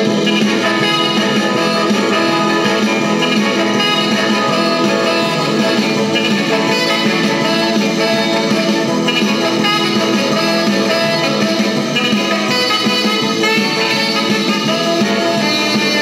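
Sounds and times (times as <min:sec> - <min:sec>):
electric guitar: 0:00.0 - 0:16.0
instrumental rock and roll band: 0:00.0 - 0:16.0.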